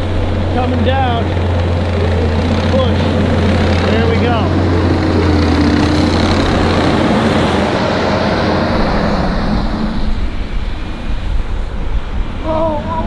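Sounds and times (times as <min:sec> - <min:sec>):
diesel engine hum: 0:00.0 - 0:13.0
snow plow rushing noise: 0:00.0 - 0:13.0.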